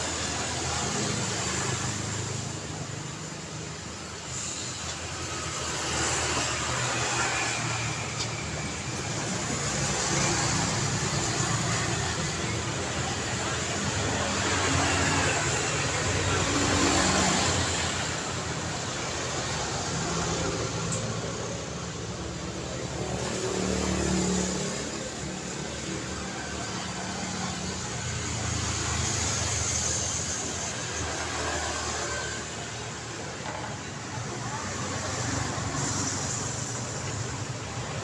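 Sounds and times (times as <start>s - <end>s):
vehicles passing: 0.0s - 38.0s.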